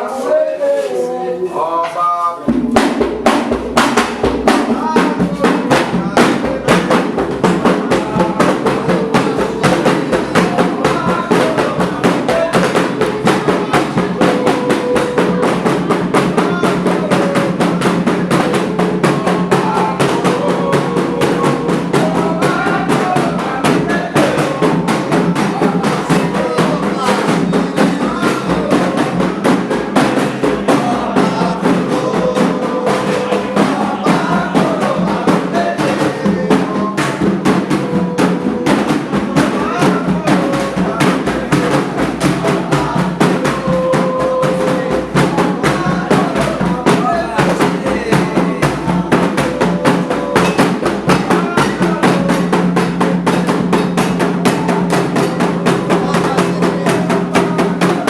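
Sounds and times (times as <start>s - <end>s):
voices singing: 0.0s - 58.0s
hand drums fast beat: 1.8s - 58.0s.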